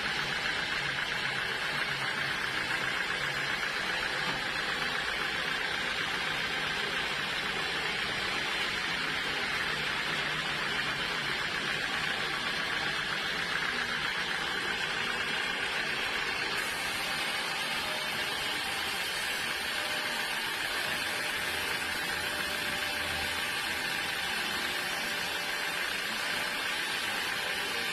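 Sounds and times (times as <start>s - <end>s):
sawmill saw cutting wood: 0.0s - 27.9s.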